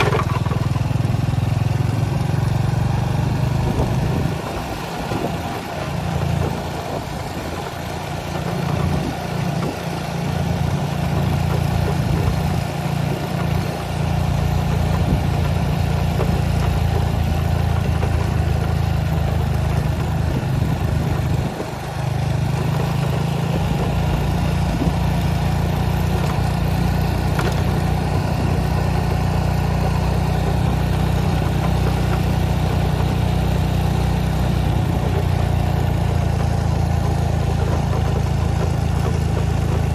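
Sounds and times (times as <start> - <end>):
vehicle engine low rumble: 0.0 - 39.9.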